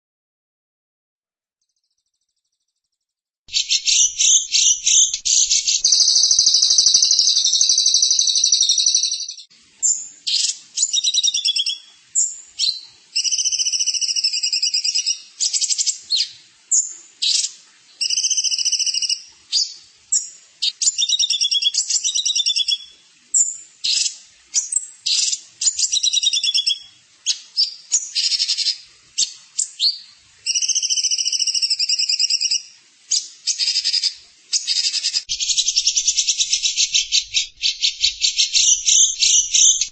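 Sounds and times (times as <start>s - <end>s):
songbird buzzy trills: 3.5s - 39.9s.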